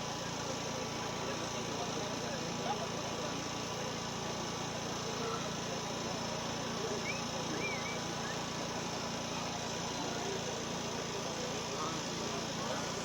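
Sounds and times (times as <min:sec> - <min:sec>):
murmur of street crowd: 0:00.0 - 0:13.0.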